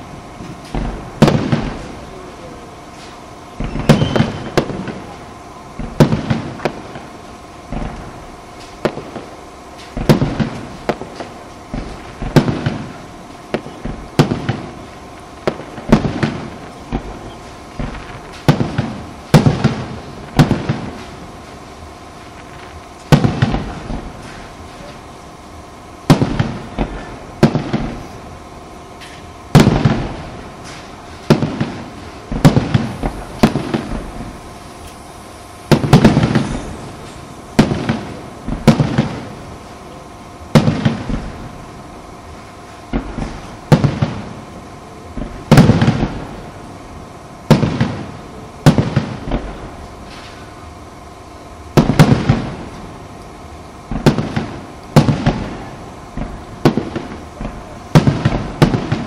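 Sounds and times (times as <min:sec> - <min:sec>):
firework shells bursting: 0:00.0 - 0:50.8, 0:51.5 - 0:59.0.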